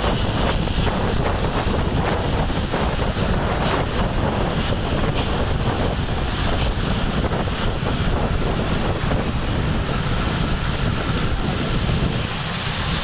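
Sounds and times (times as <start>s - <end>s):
highway traffic road noise: 0.0s - 13.0s
wind buffeting microphone: 0.0s - 13.0s.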